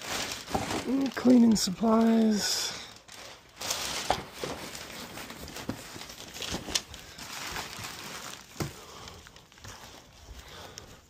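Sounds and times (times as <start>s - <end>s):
cardboard and plastic bags rustling: 0.0s - 11.0s.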